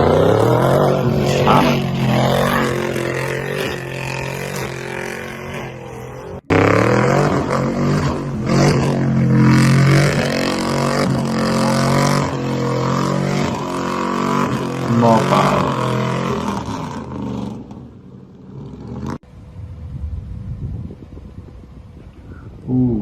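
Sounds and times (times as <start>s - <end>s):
pickup truck engine revving: 0.0s - 19.2s
loud engine: 0.0s - 19.8s.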